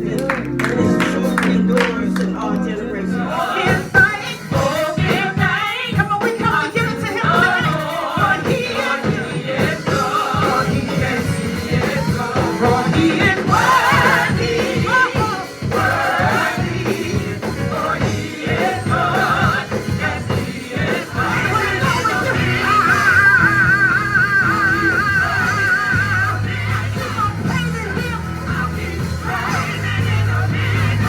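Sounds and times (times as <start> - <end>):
gospel singing with vibrato: 0.0 - 31.0
instrumental accompaniment: 0.0 - 31.0.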